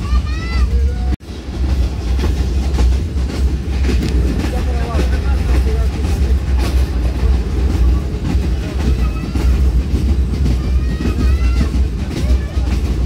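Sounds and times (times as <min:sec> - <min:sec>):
train rumbling: 0:00.0 - 0:13.0
wheels clattering over rail joints: 0:01.2 - 0:13.0.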